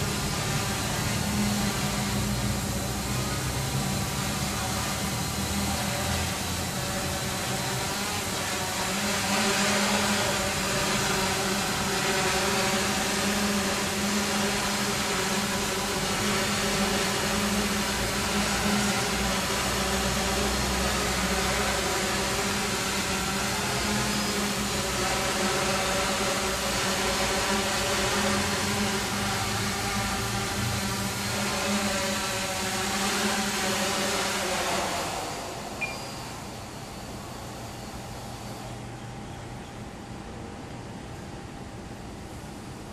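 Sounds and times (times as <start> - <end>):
drone propellers whirring: 0.0 - 42.9.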